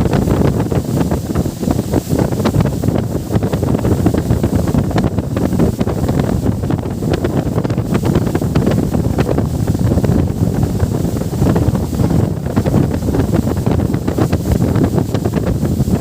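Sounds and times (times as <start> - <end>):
water rushing by: 0.0 - 16.0
wind buffeting microphone: 0.0 - 16.0.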